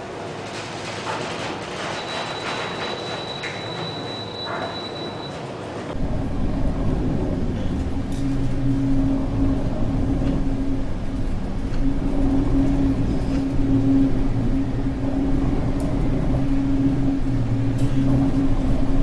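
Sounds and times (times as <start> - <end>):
ship engines droning: 2.0 - 19.0.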